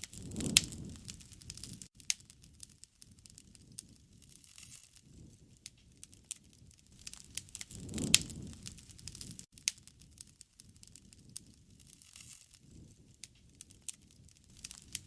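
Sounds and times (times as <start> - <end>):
low rush of flame: 0.0 - 15.0
wood fire crackling: 0.0 - 15.0.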